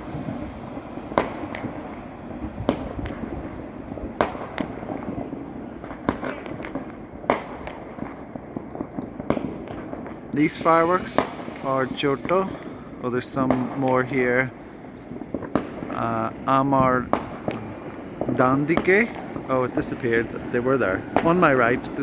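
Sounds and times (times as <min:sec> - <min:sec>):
fireworks bangs and pops: 0:00.0 - 0:22.0
steady background noise: 0:00.0 - 0:22.0.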